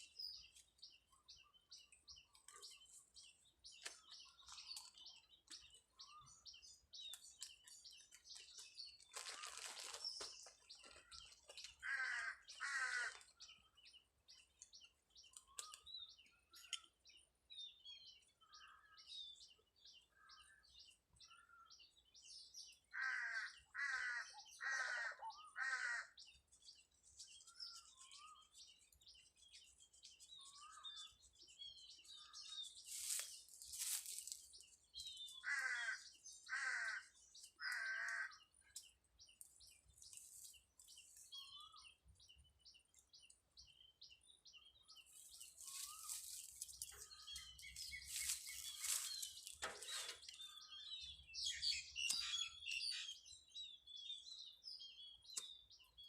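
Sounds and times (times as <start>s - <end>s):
high bird chirps: 0.0s - 17.3s, 27.4s - 56.0s
harsh bird calls: 1.8s - 14.5s, 21.2s - 28.9s, 30.1s - 56.0s.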